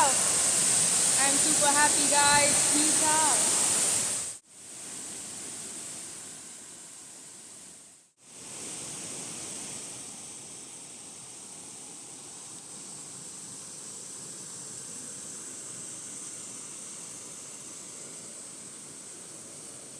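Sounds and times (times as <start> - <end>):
distant waterfall rushing: 0.0 - 19.9
hiss: 0.0 - 19.9.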